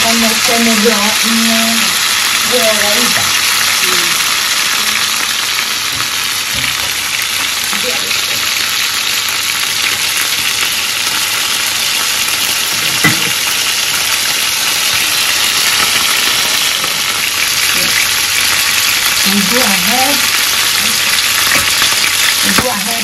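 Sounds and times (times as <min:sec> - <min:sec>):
chicken frying in hot oil: 0:00.0 - 0:23.0.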